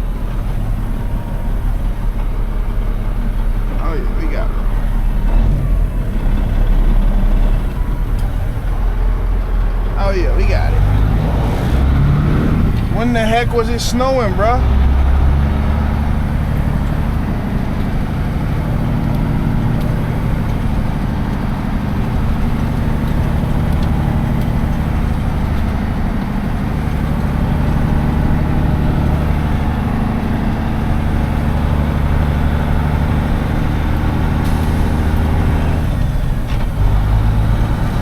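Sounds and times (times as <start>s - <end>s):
diesel truck engine droning: 0.0s - 38.0s.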